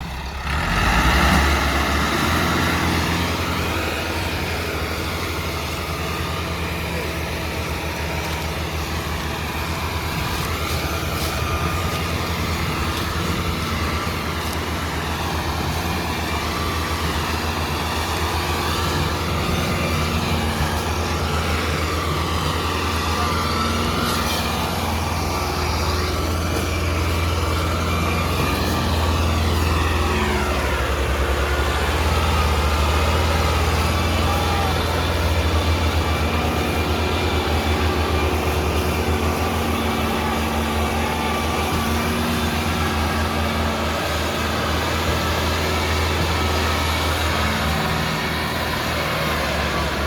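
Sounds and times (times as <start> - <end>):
tractor diesel engine droning: 0.0 - 50.0.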